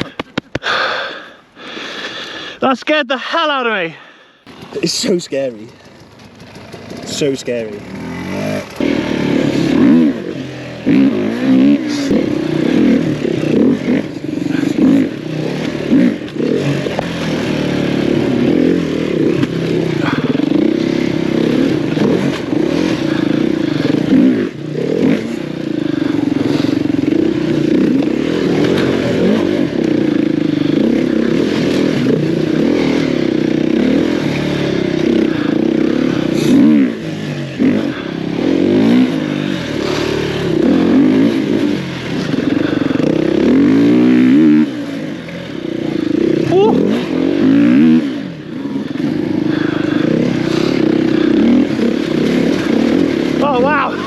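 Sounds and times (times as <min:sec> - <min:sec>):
dirt bike engine revving: 0:03.5 - 0:54.0.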